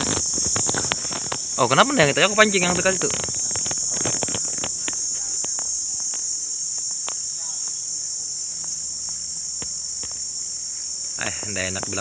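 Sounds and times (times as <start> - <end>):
forest insects shrill chorus: 0.0 - 12.0.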